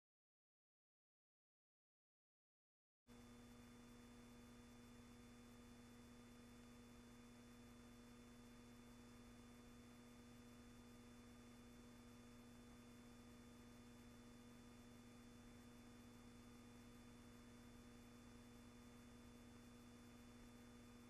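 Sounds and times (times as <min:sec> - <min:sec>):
faint steady hum with tones: 0:03.1 - 0:21.0.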